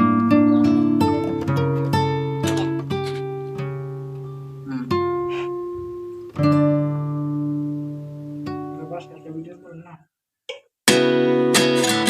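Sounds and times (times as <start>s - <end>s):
guitar chords ringing: 0.0s - 9.8s, 10.9s - 12.0s.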